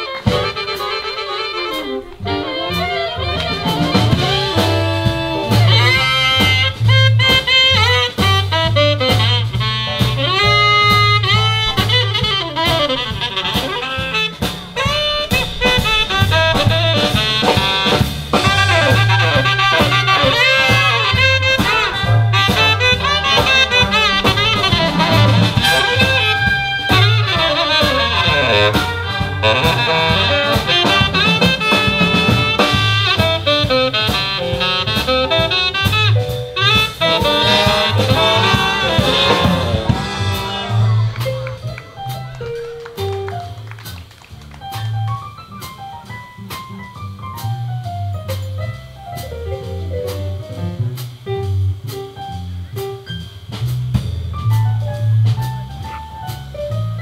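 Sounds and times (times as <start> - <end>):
saxophone solo: 0.0 - 45.6
drum kit: 0.0 - 57.0
bass line: 1.5 - 57.0.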